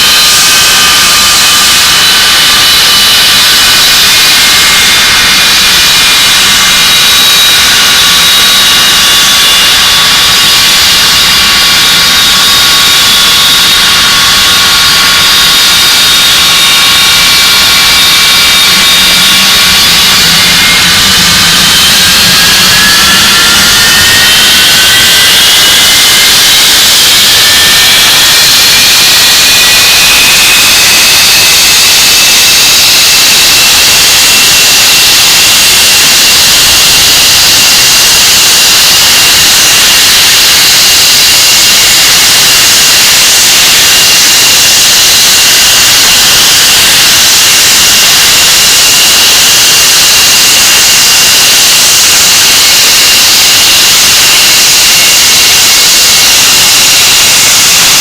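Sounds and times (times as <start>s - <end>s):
jet engine whine and roar: 0.0s - 58.0s.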